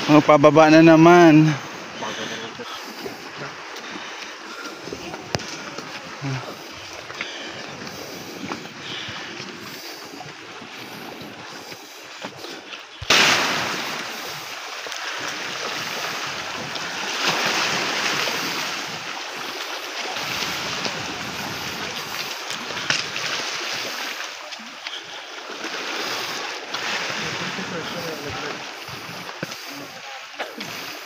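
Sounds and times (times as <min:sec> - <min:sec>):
surf washing on rocky shore: 0:00.0 - 0:31.0.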